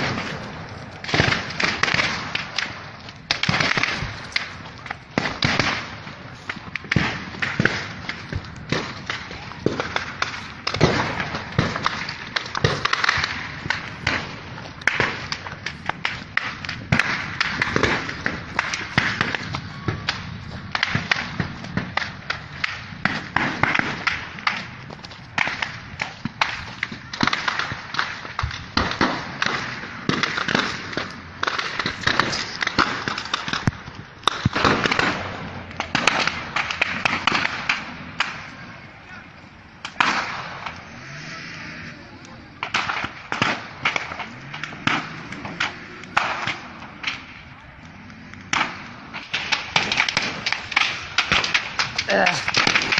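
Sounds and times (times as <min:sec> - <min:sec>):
gunfire cracks and pops: 0:00.0 - 0:38.5, 0:39.8 - 0:40.9, 0:42.6 - 0:52.9.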